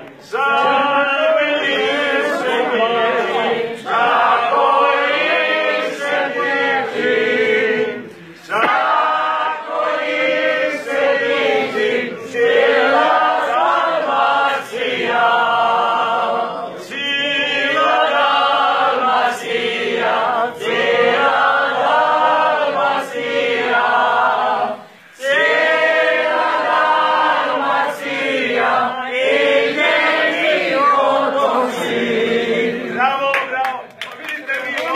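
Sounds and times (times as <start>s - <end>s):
voices singing without instruments: 0.0s - 33.1s.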